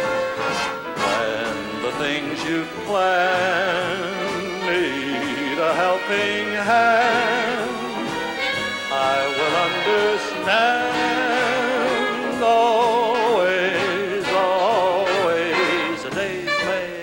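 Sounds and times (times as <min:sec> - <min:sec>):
band accompaniment: 0:00.0 - 0:17.0
man singing slow ballad: 0:01.0 - 0:08.0, 0:08.9 - 0:17.0.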